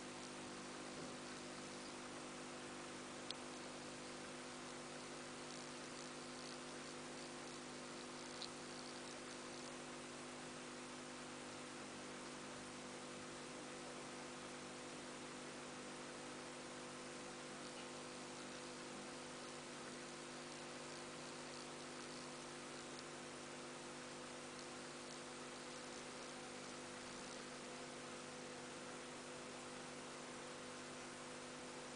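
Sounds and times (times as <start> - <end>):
even hiss: 0.0 - 31.9
faint electrical hum: 0.0 - 31.9.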